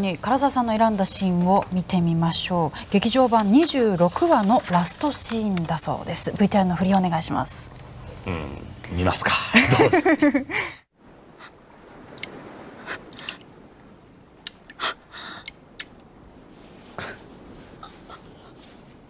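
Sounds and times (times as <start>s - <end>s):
sea waves: 0.0s - 19.0s.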